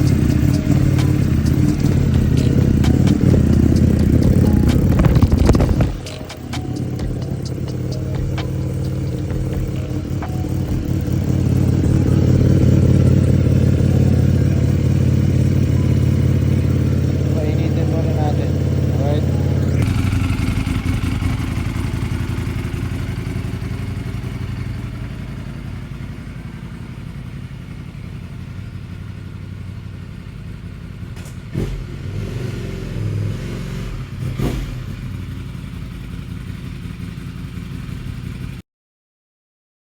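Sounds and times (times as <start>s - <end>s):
motorcycle engine idling: 0.0s - 33.3s, 33.9s - 38.6s.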